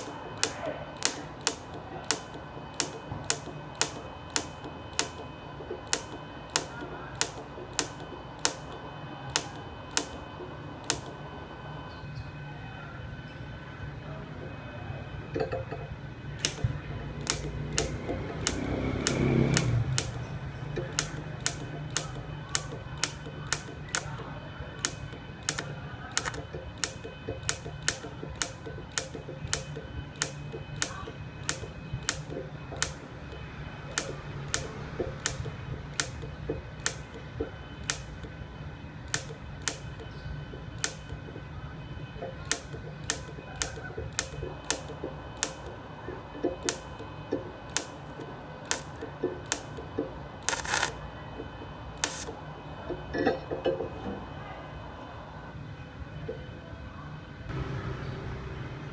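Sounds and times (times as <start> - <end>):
sharp clicks: 0.0 - 11.3, 16.3 - 53.0
welder hum with faint whine: 0.0 - 53.3.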